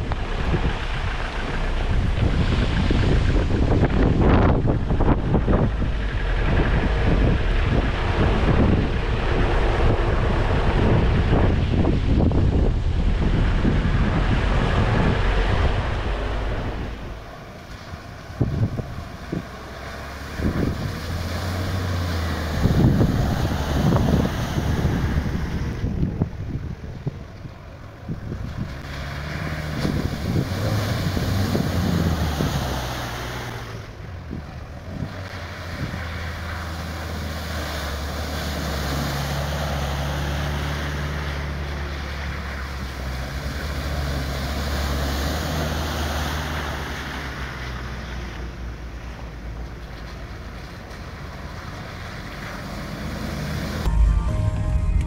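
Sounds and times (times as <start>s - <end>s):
wind noise on microphone: 0.0s - 48.6s
engine running under load: 0.0s - 55.0s.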